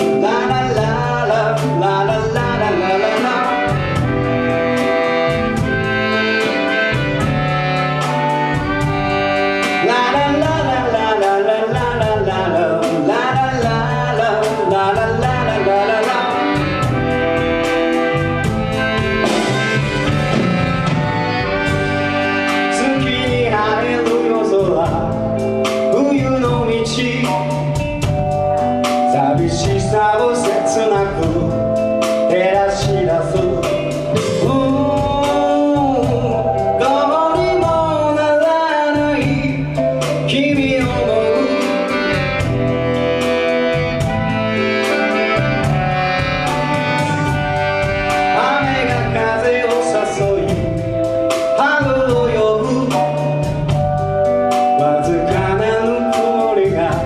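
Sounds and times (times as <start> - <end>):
person singing: 0.0 - 5.6, 6.2 - 53.8, 54.6 - 57.0
drums beating: 0.0 - 57.0
live band playing: 0.0 - 57.0.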